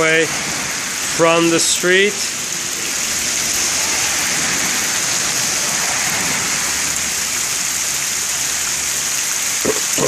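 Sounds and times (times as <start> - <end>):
heavy rain pouring: 0.0 - 10.0
runoff water streaming: 0.0 - 10.0.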